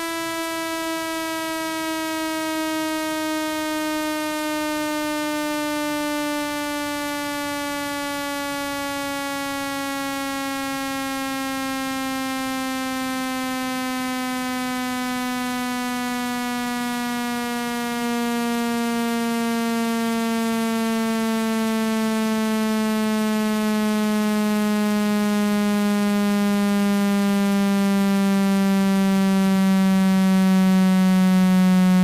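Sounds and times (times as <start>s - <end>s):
buzzing test tone gliding down: 0.0s - 32.0s.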